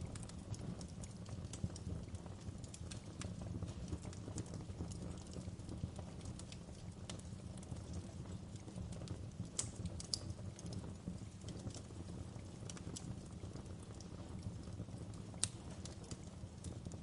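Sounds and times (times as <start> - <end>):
low rumble of burning: 0.0 - 17.0
wood fire crackling: 0.0 - 17.0.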